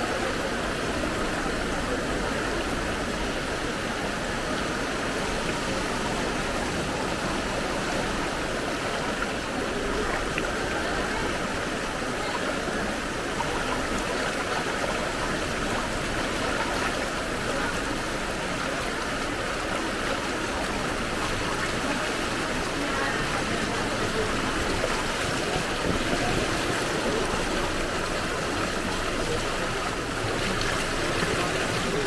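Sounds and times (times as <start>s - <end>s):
rushing flood water: 0.0s - 32.0s.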